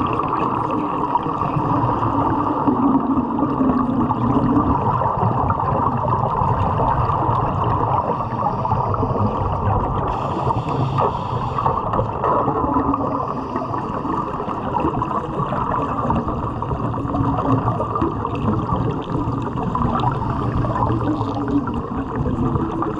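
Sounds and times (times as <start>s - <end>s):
diver's exhaust bubbles: 0.0s - 22.9s.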